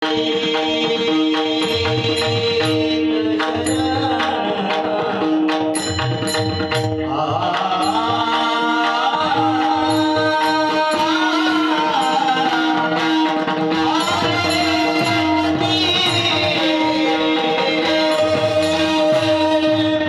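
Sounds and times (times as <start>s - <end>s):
drum beats: 0.0s - 20.0s
man singing: 0.0s - 20.0s.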